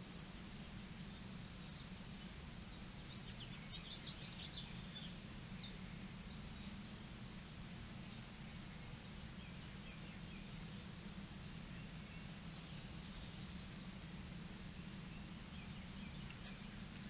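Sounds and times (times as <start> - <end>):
steady low hum and hiss: 0.0 - 17.0
small birds chirping: 0.9 - 7.2, 7.9 - 17.0.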